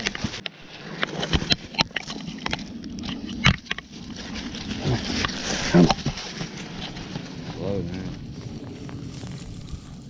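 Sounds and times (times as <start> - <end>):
rustling of dry leaves: 0.0 - 10.0.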